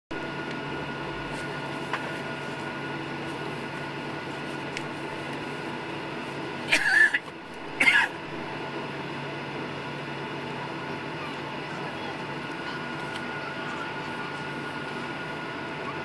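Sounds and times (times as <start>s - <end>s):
jet engines humming in cabin: 0.1s - 16.0s.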